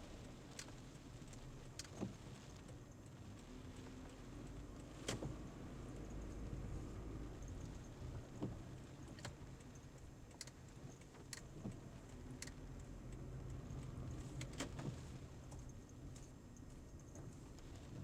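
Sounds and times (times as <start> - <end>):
road rumble inside car: 0.0 - 18.0.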